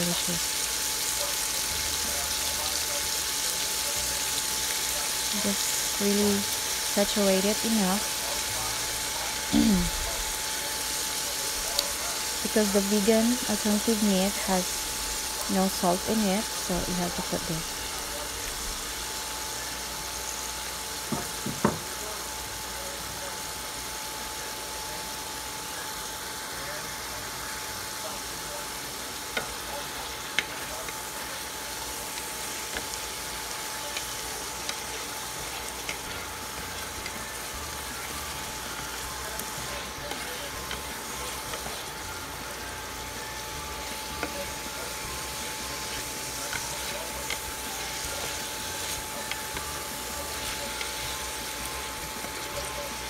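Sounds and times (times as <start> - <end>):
meat sizzling in a pan: 0.0 - 53.0.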